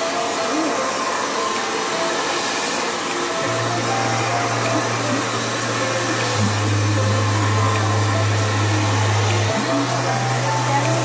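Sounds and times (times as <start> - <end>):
hair dryer blowing air: 0.0 - 11.0.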